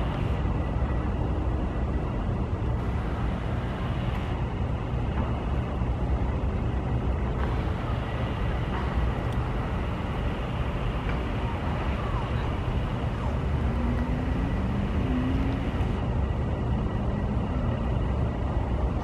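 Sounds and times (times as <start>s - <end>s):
heavy machinery engine rumbling: 0.0s - 19.0s.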